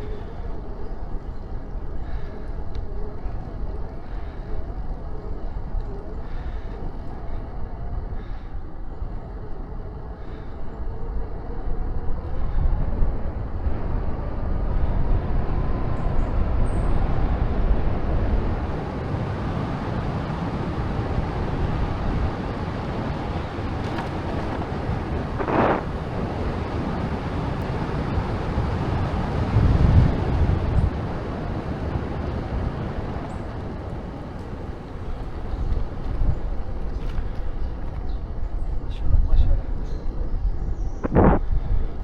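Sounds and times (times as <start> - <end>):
road noise: 0.0 - 40.0
wind rushing over microphone: 0.0 - 42.0.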